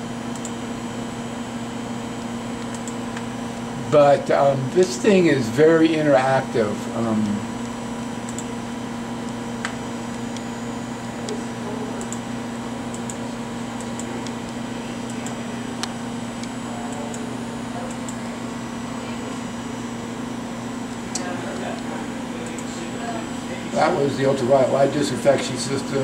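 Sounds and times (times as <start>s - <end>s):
electrical equipment hum: 0.0s - 26.0s.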